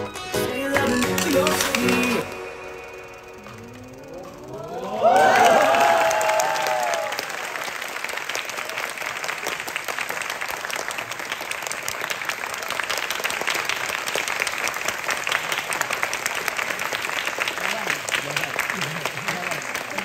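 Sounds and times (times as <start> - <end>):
audience applauding: 0.0 - 2.4, 3.4 - 20.0.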